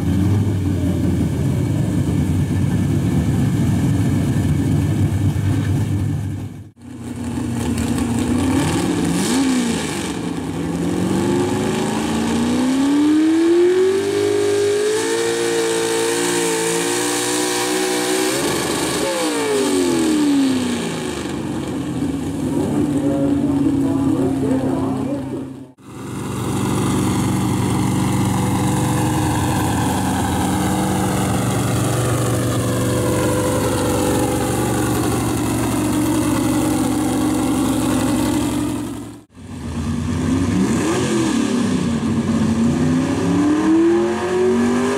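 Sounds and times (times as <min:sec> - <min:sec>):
truck engine running loud: 0:00.0 - 0:44.9.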